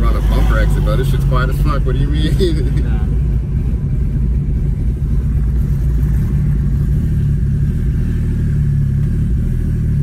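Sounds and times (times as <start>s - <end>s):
car engine droning: 0.0s - 10.0s
road rumble: 0.0s - 10.0s.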